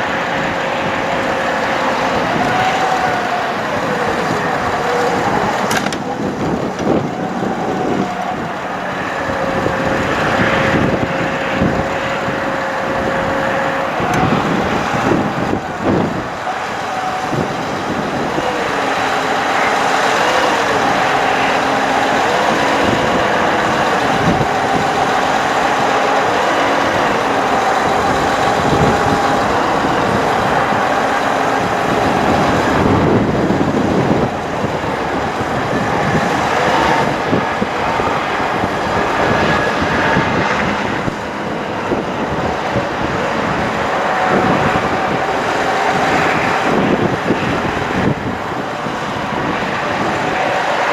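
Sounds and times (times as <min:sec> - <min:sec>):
truck engine and road noise: 0:00.0 - 0:50.9.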